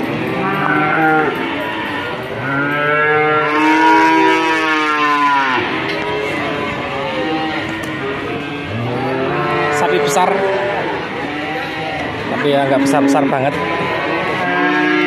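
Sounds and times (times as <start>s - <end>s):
cattle mooing: 0.2s - 15.0s.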